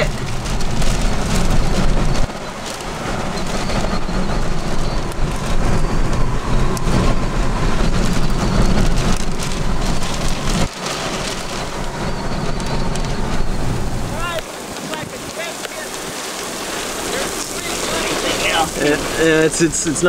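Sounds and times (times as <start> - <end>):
low wind rumble: 0.0 - 20.0
rain hissing with ticks: 0.0 - 20.0.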